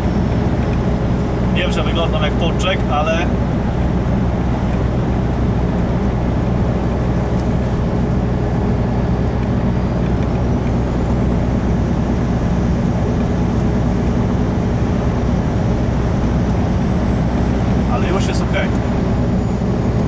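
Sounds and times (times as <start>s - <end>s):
diesel truck engine drone: 0.0s - 20.0s
tyre road noise: 0.0s - 20.0s.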